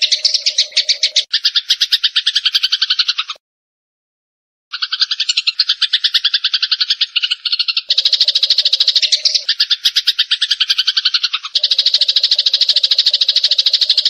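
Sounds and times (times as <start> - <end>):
sparrows chirping in chorus: 0.0 - 3.4, 4.7 - 14.0.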